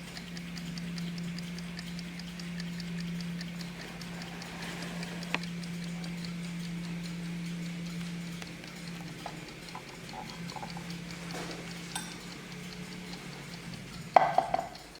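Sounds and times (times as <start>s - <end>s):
steady low hum: 0.0s - 15.0s
wall clock ticking quickly: 0.0s - 15.0s.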